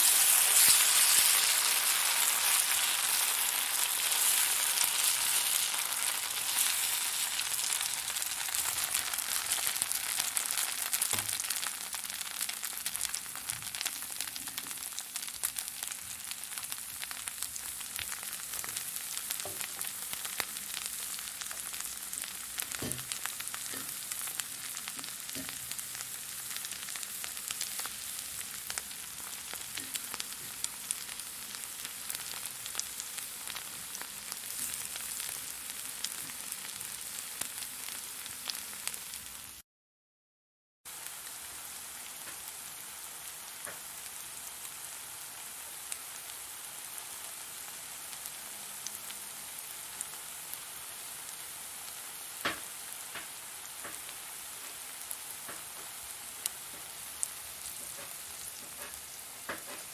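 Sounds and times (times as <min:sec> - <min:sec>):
fire crackling and hissing: 0:00.0 - 0:39.6, 0:40.9 - 0:59.9.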